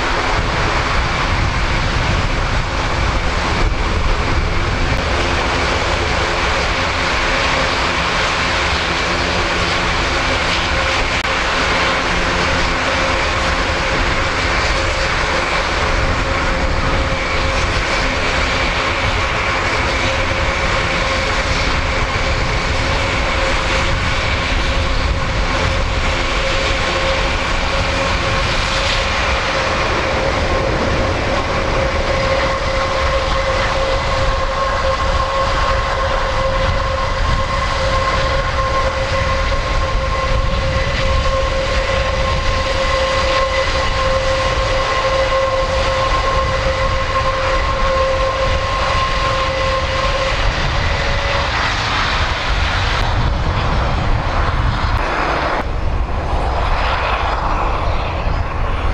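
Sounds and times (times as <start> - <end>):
turboprop engines running: 0.0 - 58.9.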